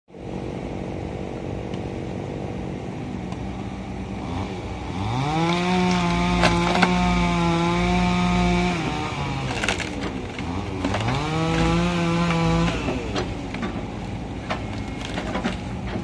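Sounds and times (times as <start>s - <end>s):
excavator diesel engine running: 0.1s - 16.0s.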